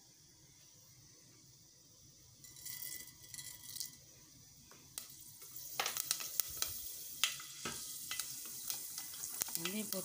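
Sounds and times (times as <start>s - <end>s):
seeds sizzling and popping in oil: 0.0s - 10.0s.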